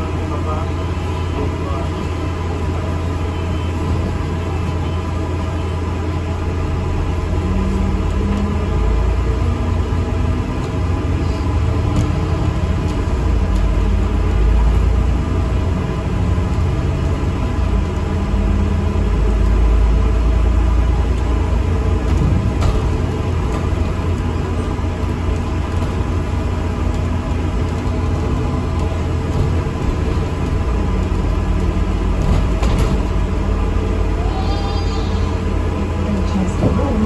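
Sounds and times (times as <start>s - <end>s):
bus engine: 0.0s - 37.0s
road rumble: 0.0s - 37.0s.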